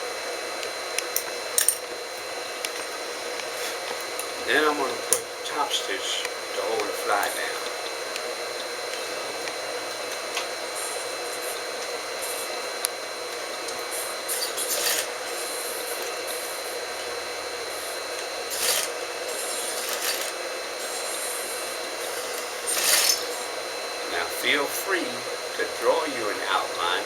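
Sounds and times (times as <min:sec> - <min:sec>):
sewing machine hum: 0:01.0 - 0:27.0.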